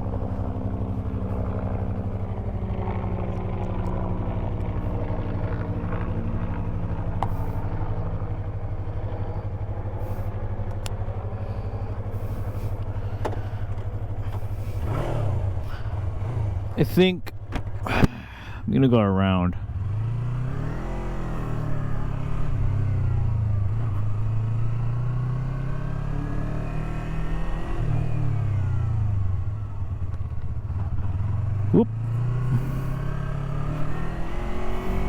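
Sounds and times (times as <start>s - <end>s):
motorcycle engine running: 0.0s - 18.7s, 19.5s - 35.0s.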